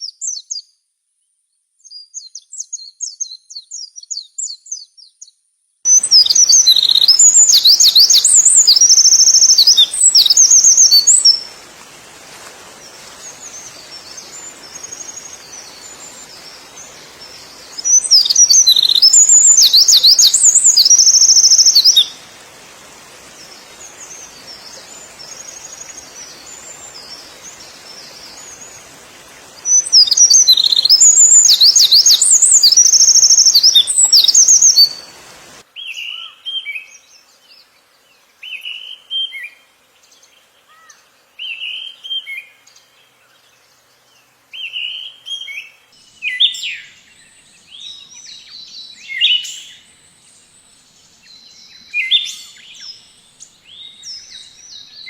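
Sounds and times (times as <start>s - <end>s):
songbirds twittering: 1.8s - 55.0s
bird calls: 5.9s - 37.3s, 38.4s - 55.0s
steady hiss: 5.9s - 55.0s.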